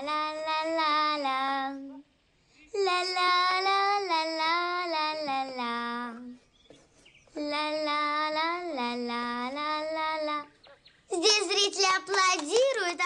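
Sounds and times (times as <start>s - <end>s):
child singing alone: 0.0s - 2.1s, 2.8s - 6.4s, 7.4s - 13.0s.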